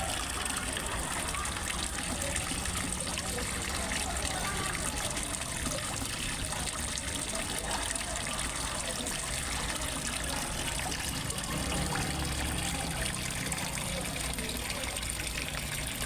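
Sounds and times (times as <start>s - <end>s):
small waterfall splashing into pond: 0.0s - 16.0s.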